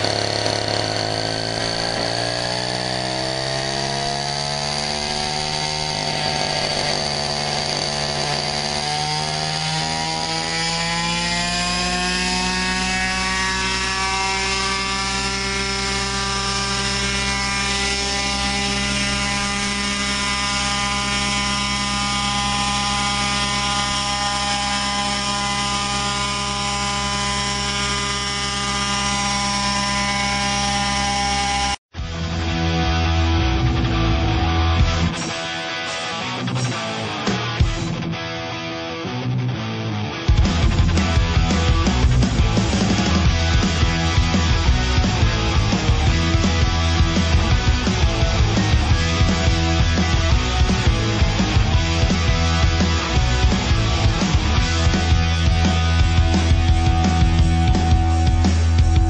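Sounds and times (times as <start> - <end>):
model helicopter engine and rotor: 0.0 - 31.8, 40.4 - 59.0.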